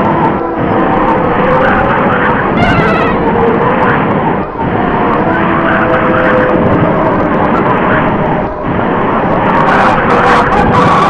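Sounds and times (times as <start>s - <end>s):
film soundtrack hiss and rumble: 0.0s - 11.0s.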